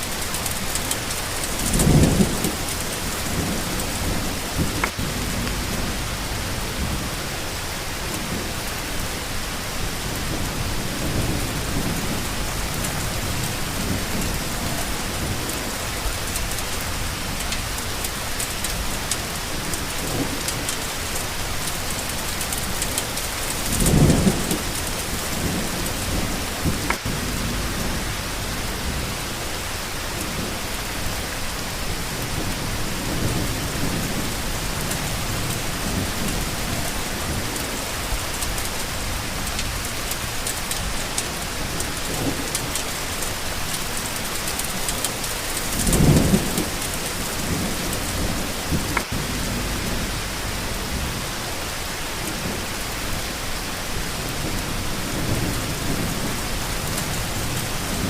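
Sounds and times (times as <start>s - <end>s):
steady rain falling: 0.0s - 58.0s
thunder rumbling: 0.0s - 58.0s.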